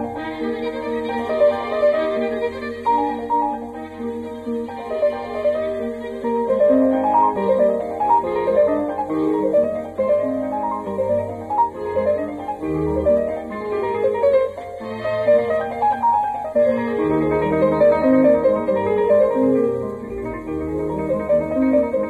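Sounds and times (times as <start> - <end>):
piano playing rising runs: 0.0 - 22.0
strings: 0.0 - 22.0.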